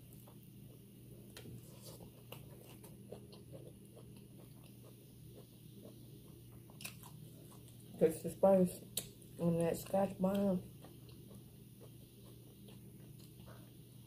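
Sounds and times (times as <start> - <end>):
faint chewing: 0.0 - 8.0, 8.8 - 14.0.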